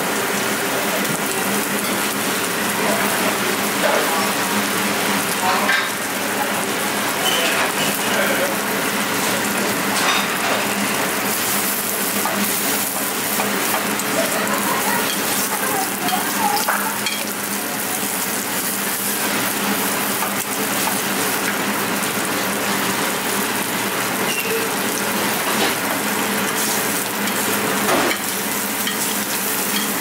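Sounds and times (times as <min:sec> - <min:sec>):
meat sizzling in a pan: 0:00.0 - 0:30.0.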